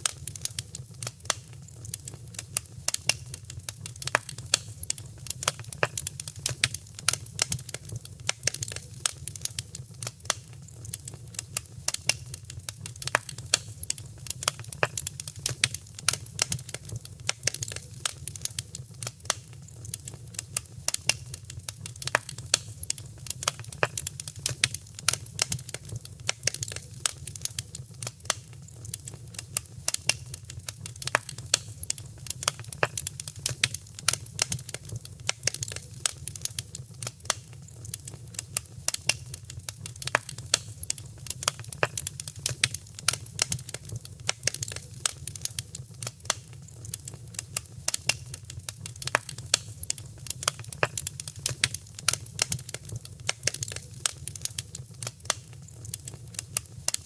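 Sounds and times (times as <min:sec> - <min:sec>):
fire crackling in a fireplace: 0:00.0 - 0:57.0.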